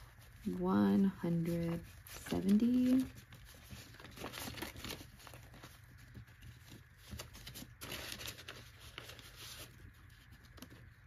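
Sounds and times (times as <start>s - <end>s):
paper bills rustling: 0.0s - 11.0s.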